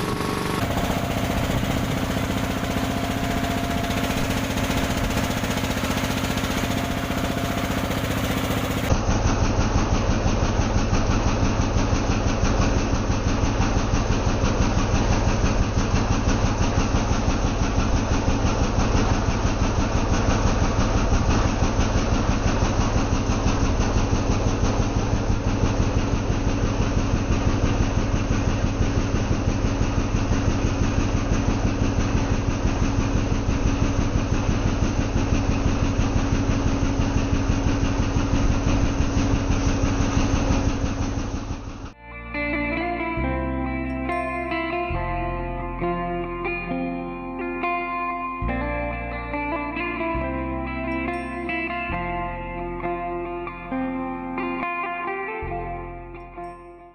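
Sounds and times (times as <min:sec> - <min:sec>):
small engine running: 0:00.0 - 0:56.8.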